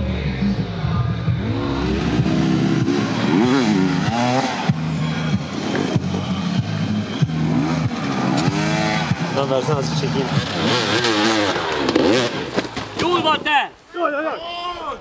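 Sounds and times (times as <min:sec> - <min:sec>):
background music: 0:00.0 - 0:12.3
dirt bike engines revving: 0:00.0 - 0:13.5.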